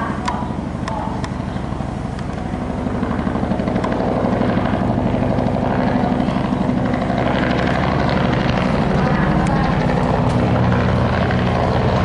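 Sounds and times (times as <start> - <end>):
helicopter rotor beating: 0.0 - 12.0.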